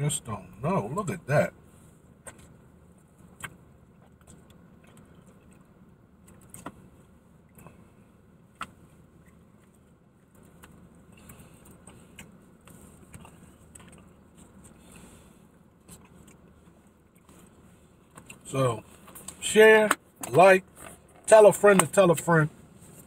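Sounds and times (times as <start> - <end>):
faint steady background hum: 0.0 - 23.0.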